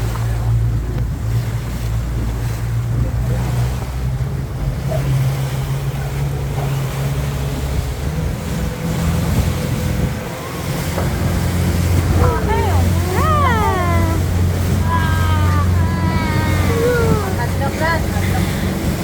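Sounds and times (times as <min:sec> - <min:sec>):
motorboat engine running: 0:00.0 - 0:19.0
rushing water: 0:00.0 - 0:19.0
wind on microphone: 0:00.0 - 0:19.0.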